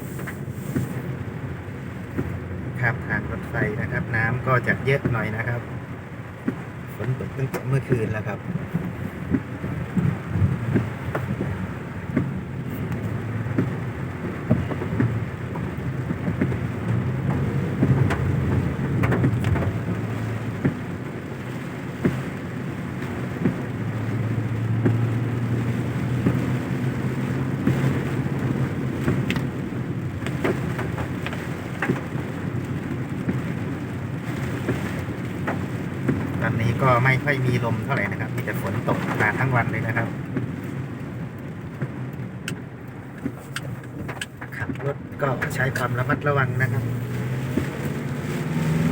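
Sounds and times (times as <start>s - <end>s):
heavy rain on a car: 0.0s - 48.9s
low vehicle hum: 0.0s - 48.9s.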